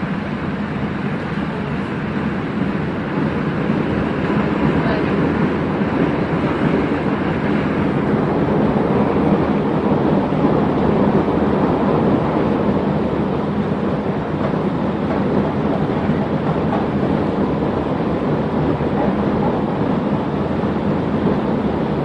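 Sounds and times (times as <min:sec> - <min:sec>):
train running noise from inside: 0:00.0 - 0:22.0.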